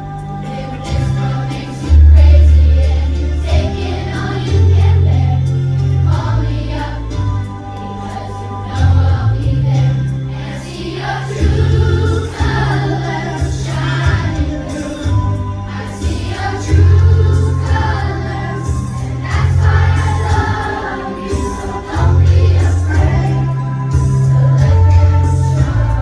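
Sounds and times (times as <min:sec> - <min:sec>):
children's choir singing: 0:00.0 - 0:26.0
musical accompaniment with bass line: 0:00.0 - 0:26.0.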